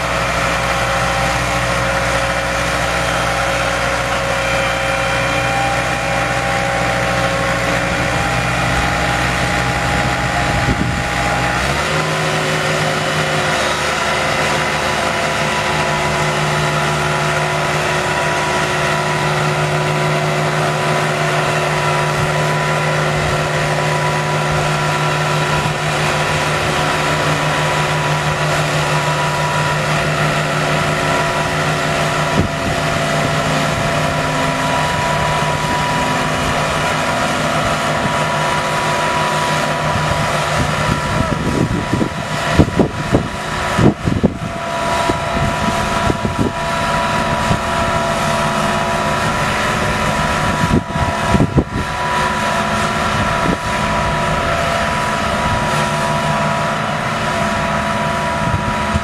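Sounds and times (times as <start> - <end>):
tractor diesel engine running: 0.0 - 59.0
wind buffeting microphone: 6.2 - 20.6, 21.3 - 59.0.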